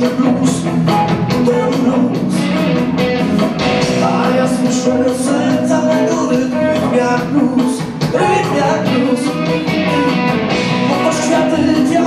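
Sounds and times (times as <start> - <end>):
electric guitar: 0.0 - 12.0.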